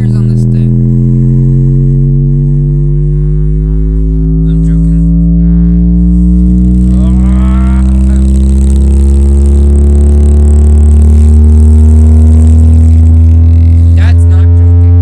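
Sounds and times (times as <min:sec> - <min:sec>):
deep bass tone from subwoofer: 0:00.0 - 0:15.0.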